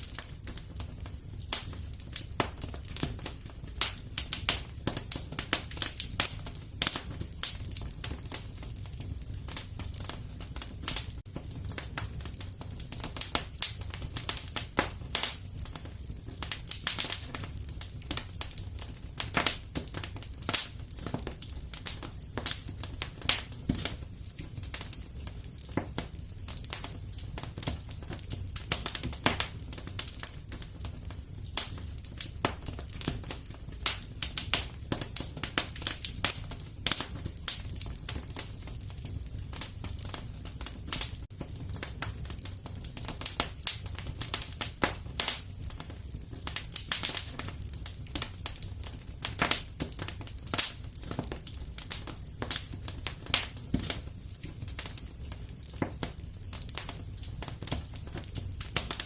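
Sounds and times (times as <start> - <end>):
low rumble of flames: 0.0 - 59.0.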